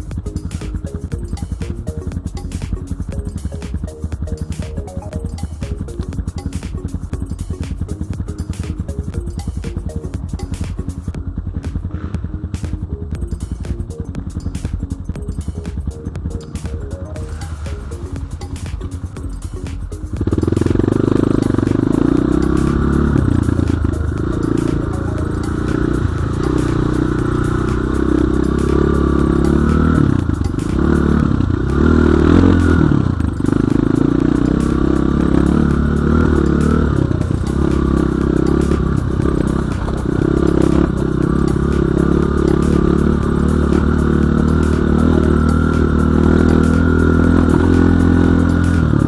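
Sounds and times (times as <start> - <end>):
dirt bike engine revving: 0.0 - 19.2, 19.8 - 49.0.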